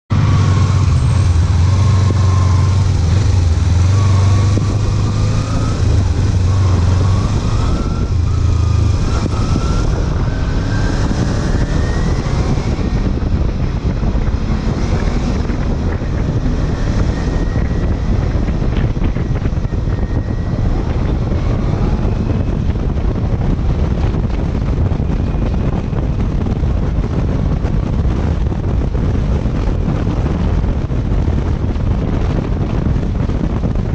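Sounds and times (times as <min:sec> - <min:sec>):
motorcycle engine revving: 0:00.1 - 0:33.9
wind noise on microphone: 0:00.1 - 0:33.9.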